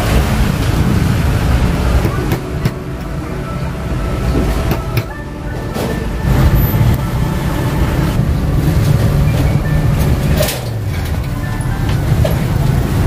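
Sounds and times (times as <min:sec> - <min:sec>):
motorbike and car engines passing: 0:00.0 - 0:13.0.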